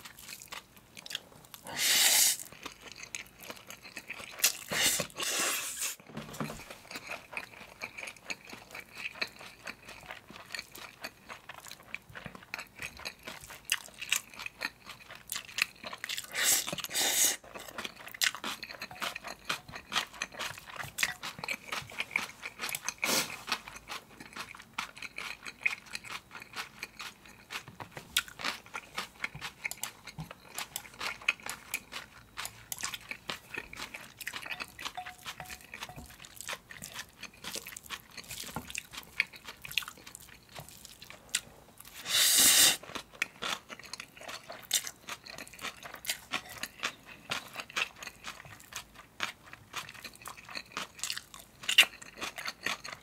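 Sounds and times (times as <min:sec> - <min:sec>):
wet chewing and smacking: 0:00.0 - 0:01.7, 0:02.4 - 0:05.3, 0:06.6 - 0:42.1, 0:42.8 - 0:53.0.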